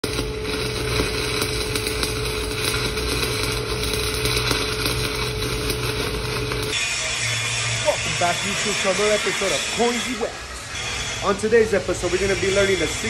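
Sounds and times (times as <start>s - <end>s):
welding arc crackling: 0.0s - 13.0s.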